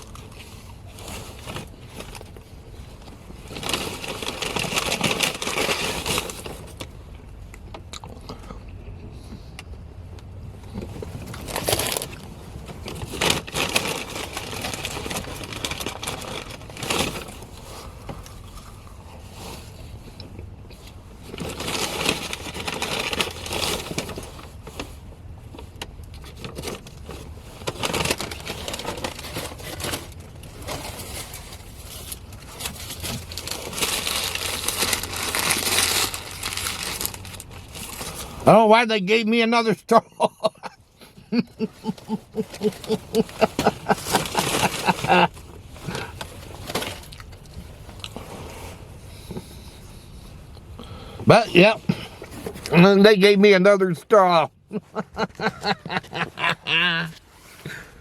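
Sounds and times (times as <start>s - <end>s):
paper wrapping crinkling: 0.0s - 7.0s, 10.8s - 38.6s, 40.4s - 49.4s, 54.5s - 58.0s.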